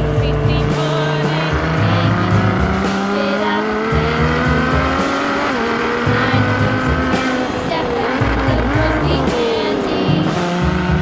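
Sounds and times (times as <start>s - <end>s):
background music with bass line: 0.0s - 11.0s
race car engine revving: 0.0s - 11.0s.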